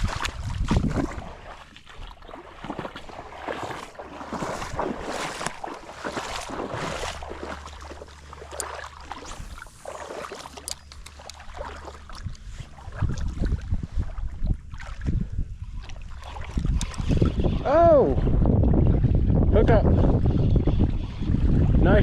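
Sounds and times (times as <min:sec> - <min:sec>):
shallow water sloshing: 0:00.0 - 0:19.5
wind on microphone: 0:00.0 - 0:22.0.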